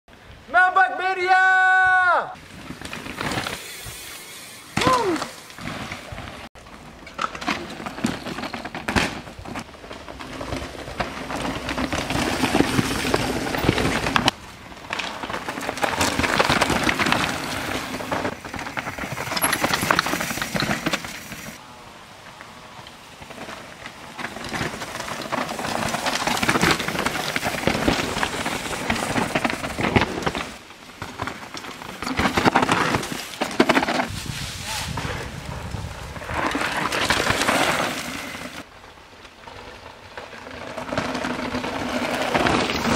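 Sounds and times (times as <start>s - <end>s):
tyres crunching and skidding on dirt: 2.4s - 21.6s, 22.2s - 42.9s
mountain bikes riding past: 2.4s - 42.9s.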